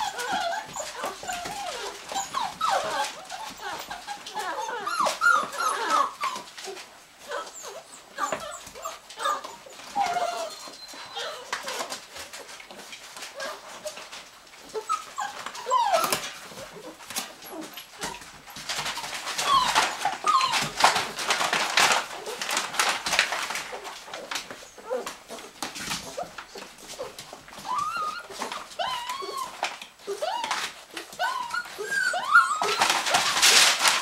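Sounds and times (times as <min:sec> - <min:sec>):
puppies whimpering and squeaking: 0:00.0 - 0:34.0
scrabbling and rustling: 0:00.0 - 0:34.0.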